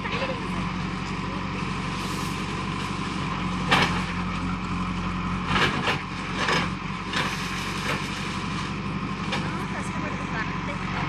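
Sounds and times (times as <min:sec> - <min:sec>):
backhoe diesel engine running: 0:00.0 - 0:11.0.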